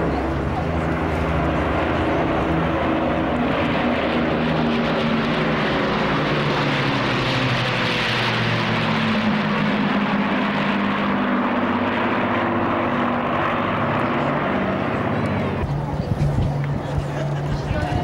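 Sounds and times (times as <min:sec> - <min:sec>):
propeller aircraft flying past: 0:00.0 - 0:18.0.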